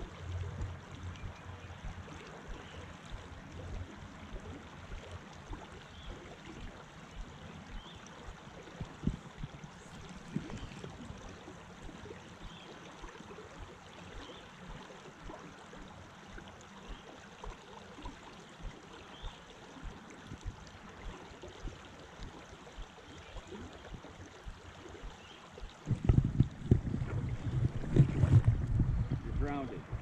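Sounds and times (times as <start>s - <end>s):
creek water over gravel: 0.0s - 30.0s.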